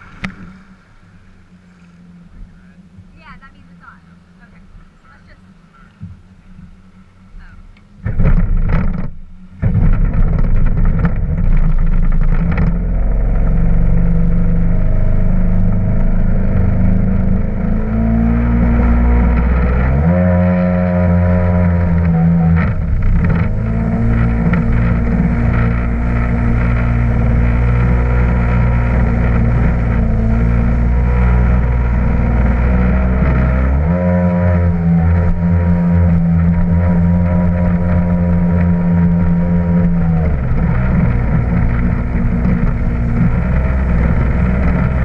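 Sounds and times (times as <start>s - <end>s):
jet ski engine running hard: 0.0s - 45.0s
water and wind rushing: 0.0s - 45.0s.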